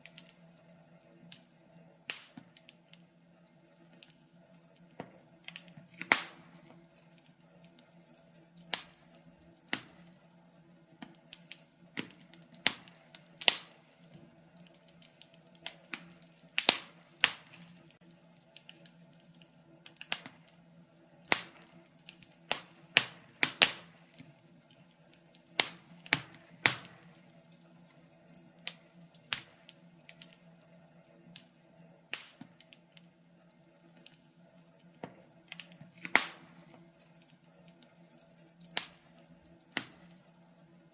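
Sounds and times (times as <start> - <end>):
faint steady low hum: 0.0 - 40.9
wood fire crackling: 0.0 - 40.9.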